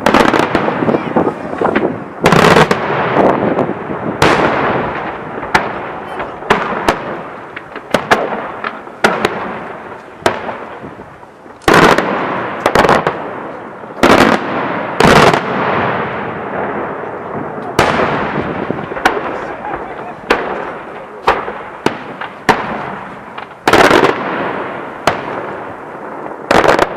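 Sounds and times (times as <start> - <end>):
fireworks bursting with bangs: 0.0 - 26.9.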